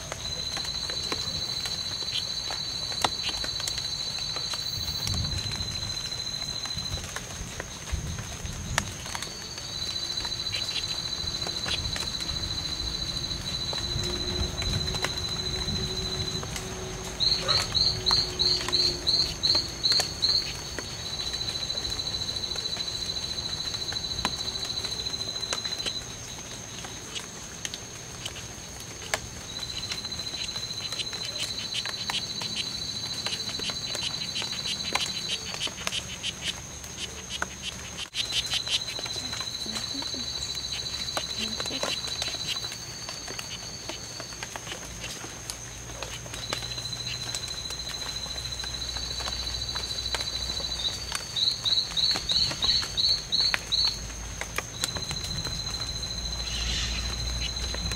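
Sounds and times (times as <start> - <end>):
frogs trilling: 0.0 - 57.9
frog chirps: 0.2 - 7.2, 9.0 - 26.1, 28.1 - 57.9.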